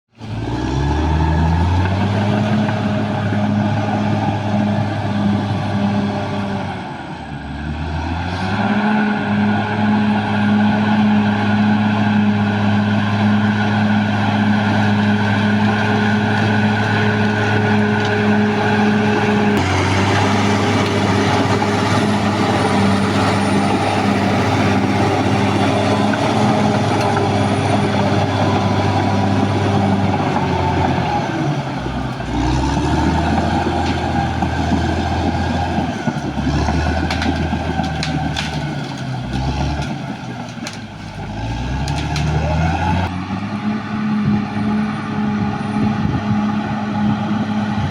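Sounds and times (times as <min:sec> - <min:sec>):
bulldozer diesel engine running: 0:00.1 - 0:47.9.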